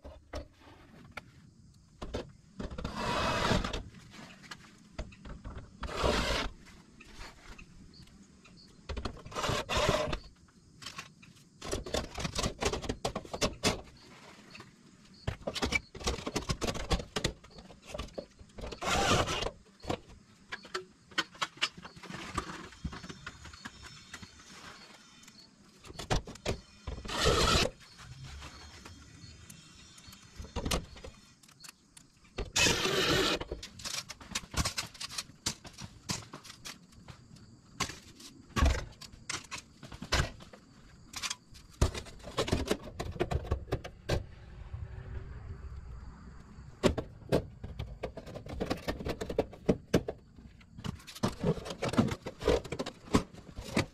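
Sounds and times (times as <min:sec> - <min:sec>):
gutter guard scraping and rattling: 0:02.0 - 0:07.7, 0:08.9 - 0:37.2, 0:37.8 - 0:44.2, 0:46.8 - 0:53.9.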